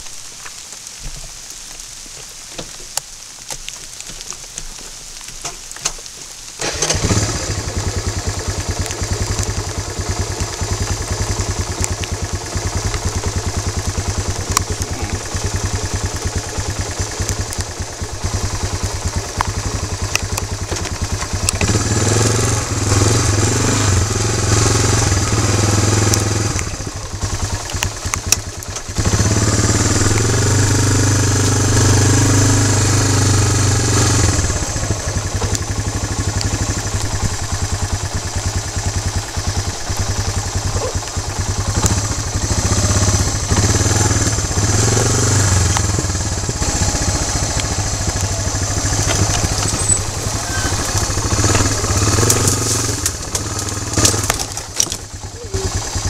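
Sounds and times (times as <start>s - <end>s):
atv engine revving: 6.6s - 56.0s.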